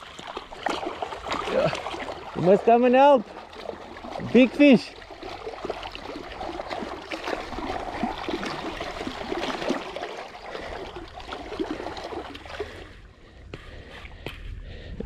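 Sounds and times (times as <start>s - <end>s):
river water gurgling against hull: 0.0s - 14.8s.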